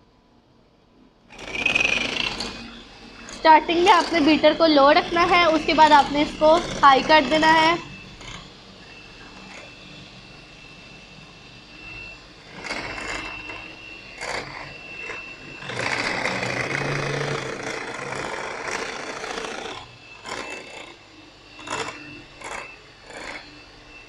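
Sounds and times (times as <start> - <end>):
electric hand mixer whipping cream: 1.3 - 23.7.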